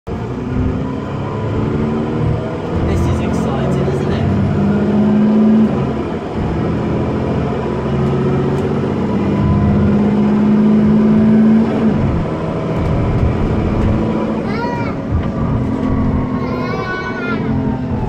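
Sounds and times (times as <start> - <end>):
bus diesel engine accelerating: 0.1 - 18.0.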